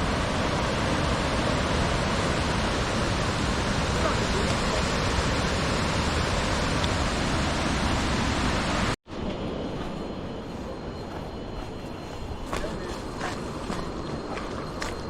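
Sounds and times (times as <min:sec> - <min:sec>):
dull steady noise: 0:00.0 - 0:15.0.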